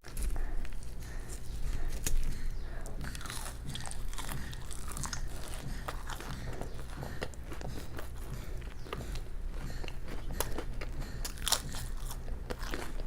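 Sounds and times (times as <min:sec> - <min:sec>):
crunchy chewing of crisp food: 0:00.0 - 0:13.0
faint low hum: 0:00.0 - 0:13.0.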